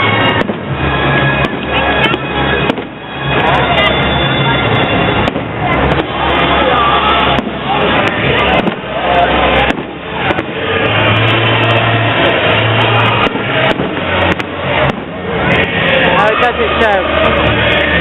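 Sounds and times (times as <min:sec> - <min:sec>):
fireworks bangs and crackles: 0:00.0 - 0:18.0
loud music: 0:00.0 - 0:18.0.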